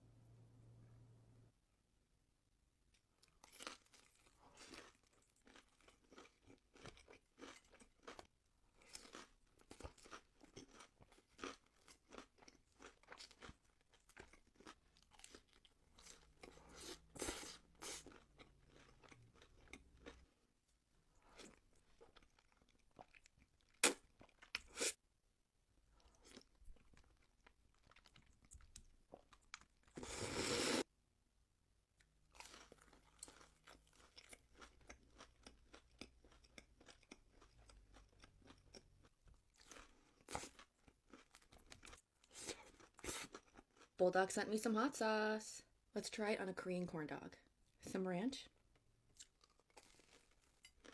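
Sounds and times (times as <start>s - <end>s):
chewing and crunching food: 2.9s - 25.0s, 25.8s - 30.2s, 32.0s - 44.2s, 48.5s - 50.9s.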